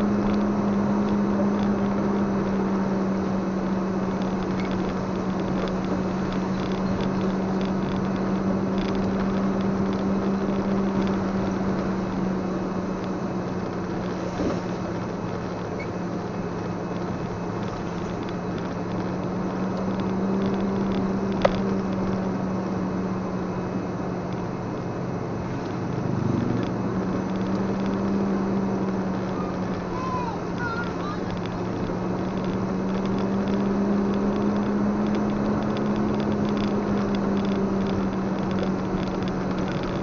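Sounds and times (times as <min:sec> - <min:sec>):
vehicle engine drone: 0:00.0 - 0:40.0.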